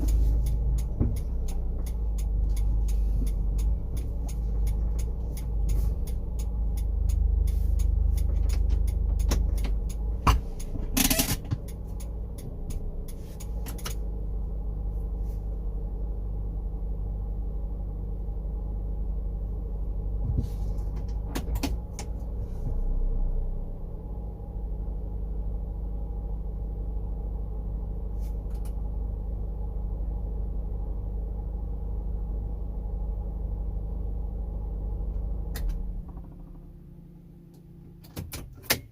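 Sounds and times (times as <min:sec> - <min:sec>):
car engine humming: 0:00.0 - 0:38.9.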